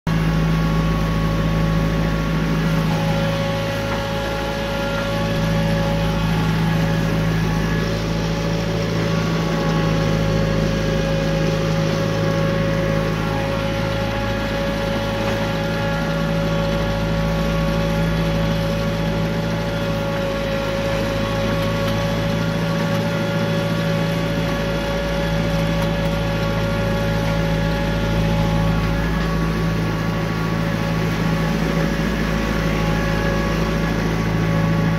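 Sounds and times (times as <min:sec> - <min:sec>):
tractor engine humming with whine: 0:00.1 - 0:34.9.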